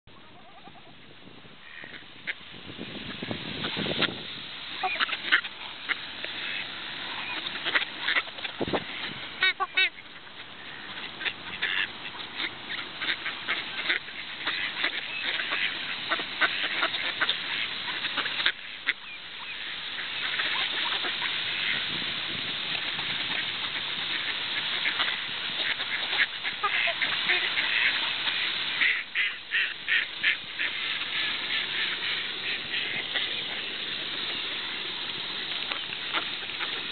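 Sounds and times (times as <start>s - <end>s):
ducks quacking: 0.2s - 1.0s, 1.6s - 36.9s.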